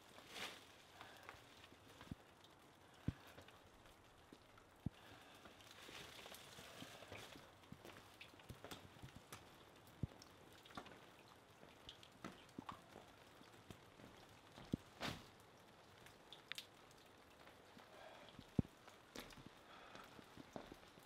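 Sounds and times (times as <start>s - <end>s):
raindrops tapping: 0.0s - 21.0s.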